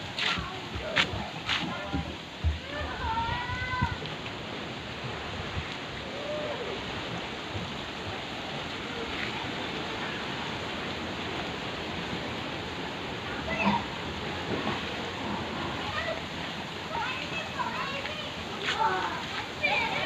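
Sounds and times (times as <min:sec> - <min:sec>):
flowing water rushing: 0:00.0 - 0:20.0.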